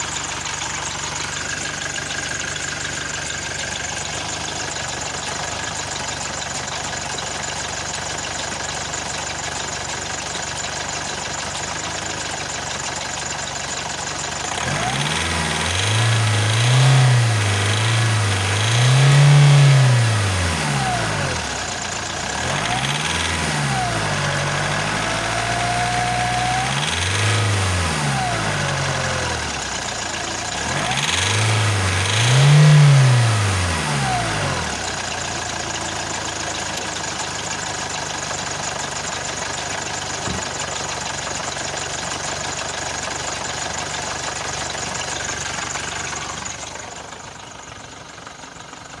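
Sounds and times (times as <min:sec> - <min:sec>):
diesel engine revving and idling: 0:00.0 - 0:49.0.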